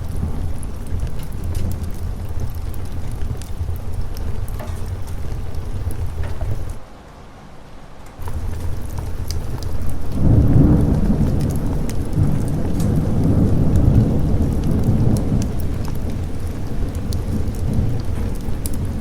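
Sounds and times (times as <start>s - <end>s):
thunder rumbling: 0.0s - 6.8s, 8.2s - 19.0s
steady rain: 0.0s - 19.0s.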